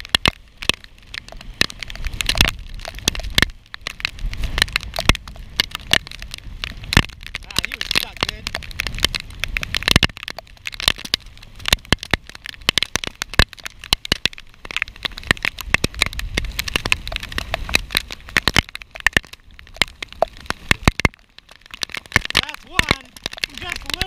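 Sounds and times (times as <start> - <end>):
raindrops clicking on camera: 0.0 - 24.0.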